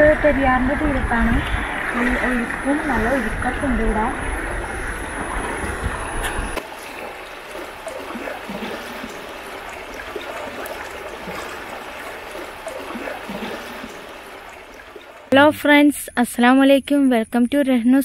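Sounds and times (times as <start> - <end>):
river current rushing: 0.0 - 15.5.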